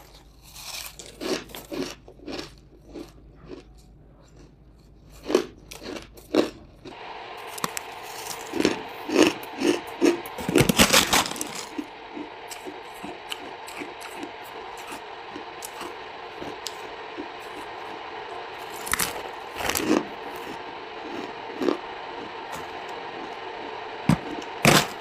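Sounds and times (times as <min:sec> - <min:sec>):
crunchy chewing: 0:00.0 - 0:22.6.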